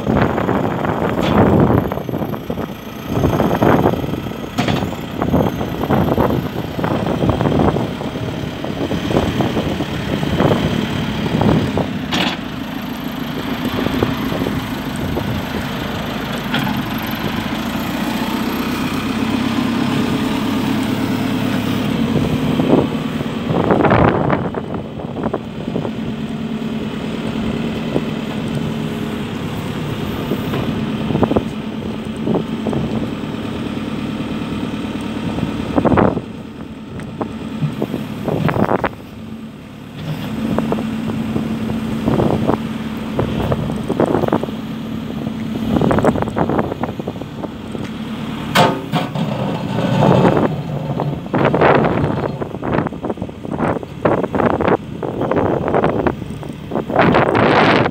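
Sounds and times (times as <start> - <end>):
backhoe diesel engine running: 0.0 - 57.9.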